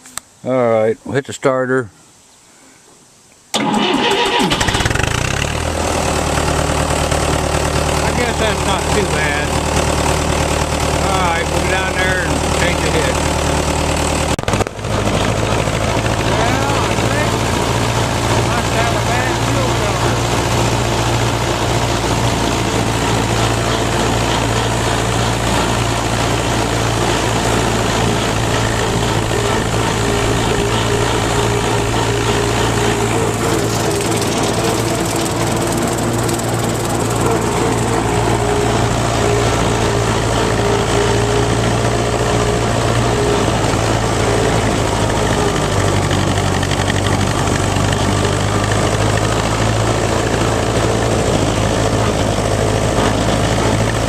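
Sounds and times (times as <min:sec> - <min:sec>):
tractor engine running: 0:03.6 - 0:54.0.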